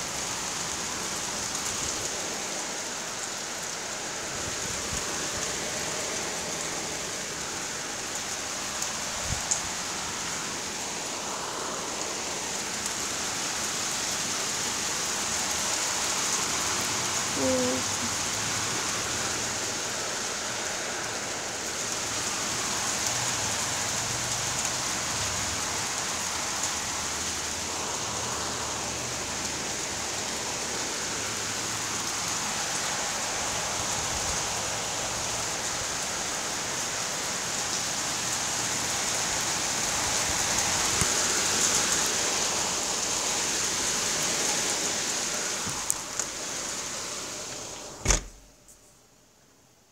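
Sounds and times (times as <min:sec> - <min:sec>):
heavy rain pouring: 0:00.0 - 0:48.6.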